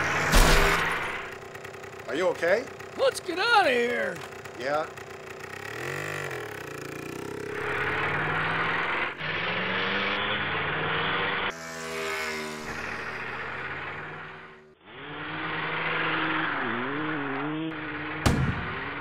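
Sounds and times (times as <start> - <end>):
engine revving: 0.0 - 19.0
harsh steady engine noise: 0.0 - 19.0.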